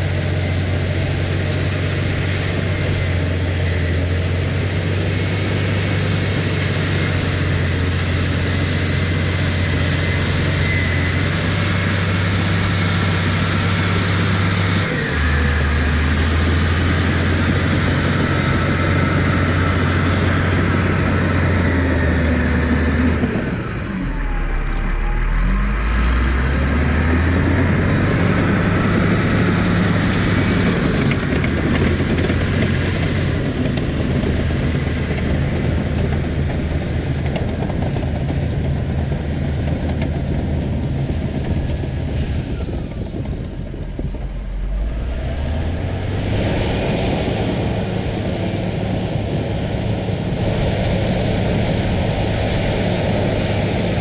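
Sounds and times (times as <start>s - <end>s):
earthmoving machine engine under load: 0.0s - 54.0s.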